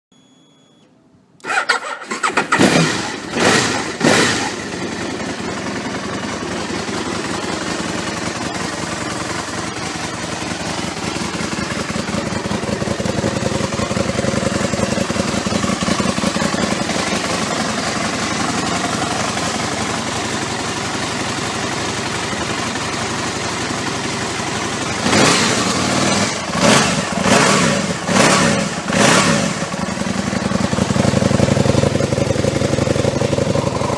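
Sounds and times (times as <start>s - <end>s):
motorcycle engine revving: 1.4s - 33.9s.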